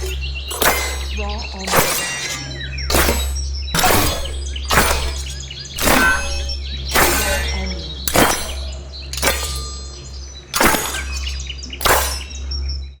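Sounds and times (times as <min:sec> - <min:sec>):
metallic blade strikes ringing: 0:00.0 - 0:12.4
steady low hum: 0:00.0 - 0:12.5.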